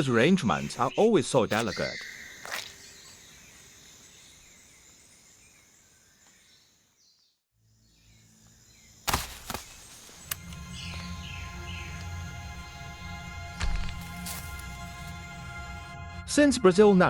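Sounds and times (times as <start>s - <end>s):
birds: 0.0s - 15.3s
insects: 0.0s - 15.6s.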